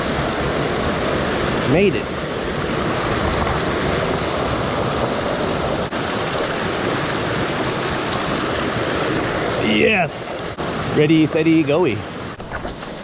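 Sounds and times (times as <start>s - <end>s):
rushing runoff in a creek: 0.0s - 13.0s.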